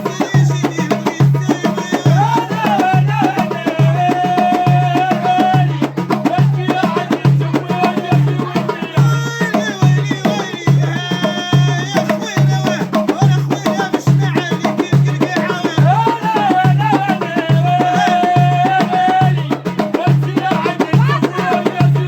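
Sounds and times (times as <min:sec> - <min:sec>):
hand percussion: 0:00.0 - 0:22.0
low drum beat: 0:00.0 - 0:22.0.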